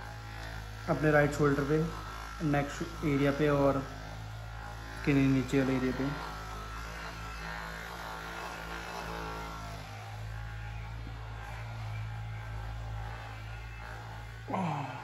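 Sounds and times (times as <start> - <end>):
massage gun buzzing: 0.0 - 15.0.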